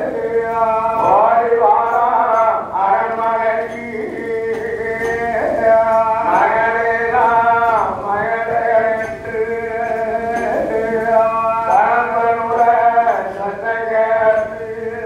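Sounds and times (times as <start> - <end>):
man singing folk ballad: 0.0 - 15.0.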